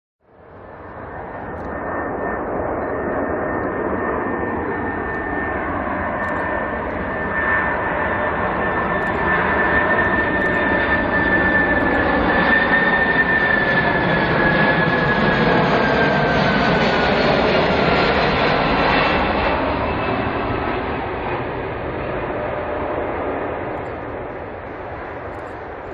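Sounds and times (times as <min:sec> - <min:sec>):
jet engines running: 0:00.3 - 0:25.9.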